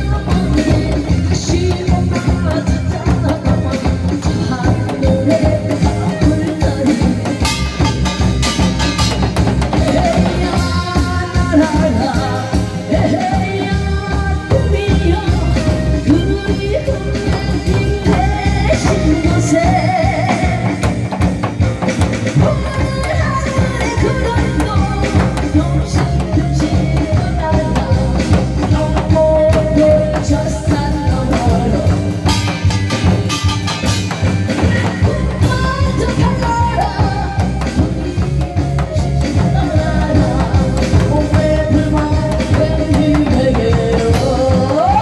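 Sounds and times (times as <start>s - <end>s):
woman singing: 0.0s - 33.5s, 34.2s - 45.0s
drum kit beat: 0.0s - 45.0s.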